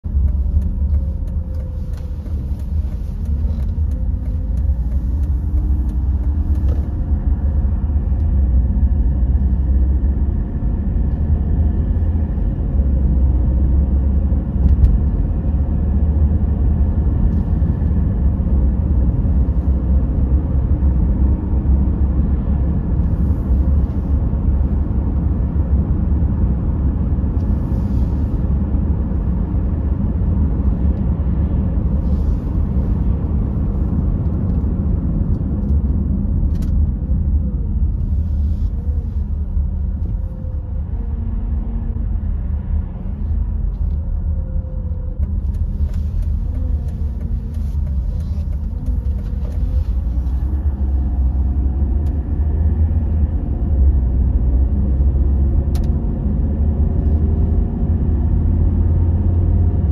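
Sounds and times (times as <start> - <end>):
faint wavering engine hum: 0.0 - 59.9
road and engine rumble: 0.0 - 59.9.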